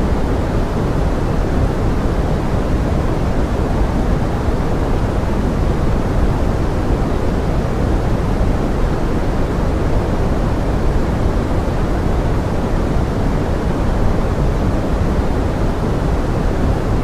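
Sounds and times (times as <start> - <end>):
pink noise: 0.0 - 17.0.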